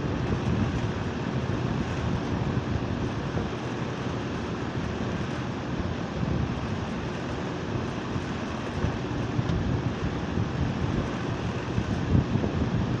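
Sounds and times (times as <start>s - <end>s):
air conditioner unit running: 0.0s - 13.0s.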